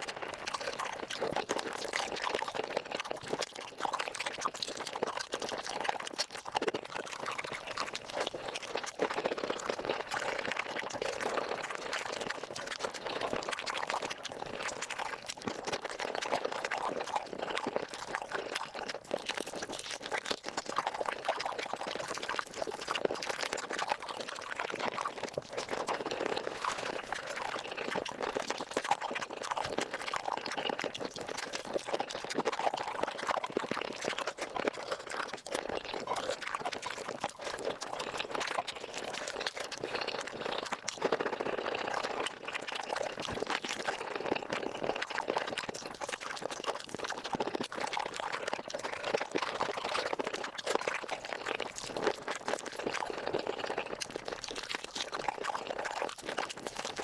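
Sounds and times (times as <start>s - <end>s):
wet crunching and chewing: 0.0s - 57.0s.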